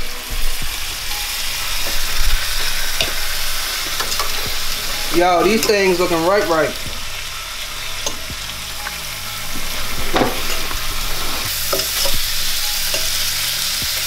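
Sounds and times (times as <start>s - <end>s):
meat sizzling in a skillet: 0.0s - 14.0s.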